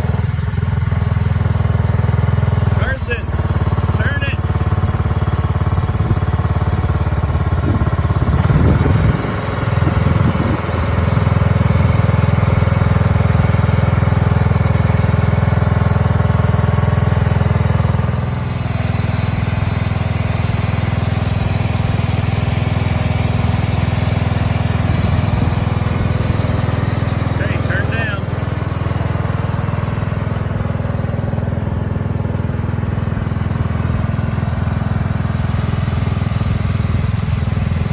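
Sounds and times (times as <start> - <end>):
lawn tractor engine running: 0.0 - 37.9.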